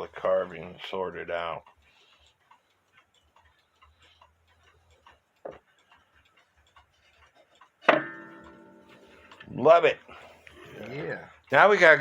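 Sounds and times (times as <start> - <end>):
clock ticking faintly: 0.0 - 12.0.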